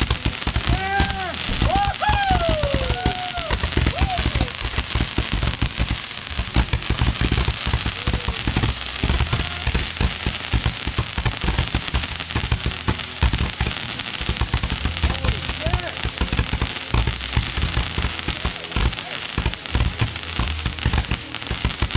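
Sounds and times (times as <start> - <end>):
fireworks bangs: 0.0 - 21.9
fireworks crackle: 0.0 - 21.9.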